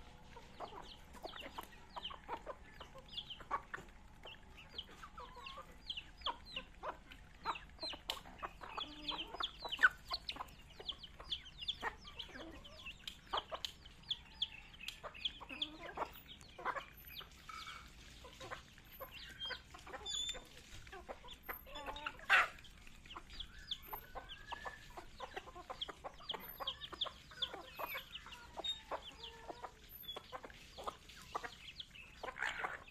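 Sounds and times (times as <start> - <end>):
beaks pecking on concrete: 0.0 - 32.9
chicks peeping: 0.0 - 32.9
hens clucking: 0.0 - 32.9.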